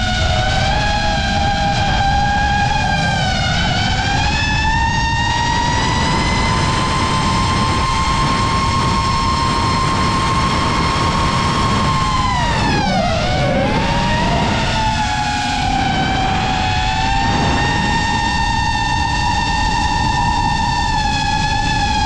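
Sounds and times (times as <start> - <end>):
quadcopter motors whining: 0.0 - 22.0
wind rushing: 0.0 - 22.0.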